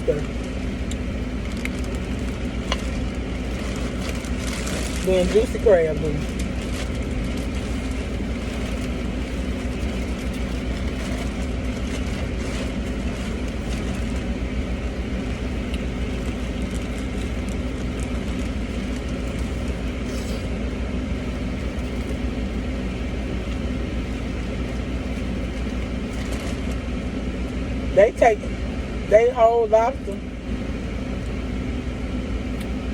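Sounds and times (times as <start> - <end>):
car idling: 0.0 - 32.9.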